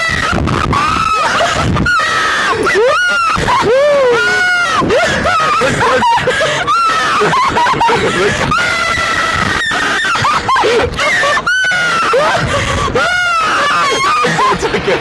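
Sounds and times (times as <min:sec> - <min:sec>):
woman screaming: 0:00.0 - 0:14.6
man laughing: 0:00.0 - 0:15.0.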